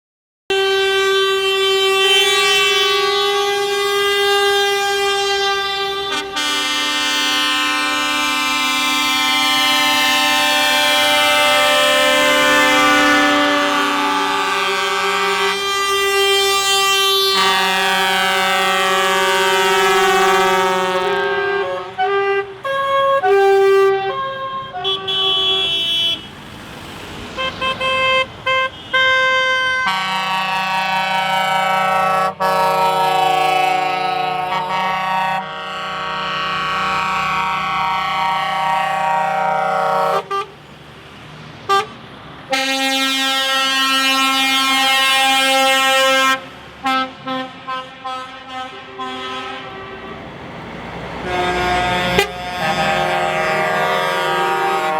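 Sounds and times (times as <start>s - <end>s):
truck horns blasting: 0.5s - 40.9s, 41.6s - 54.9s.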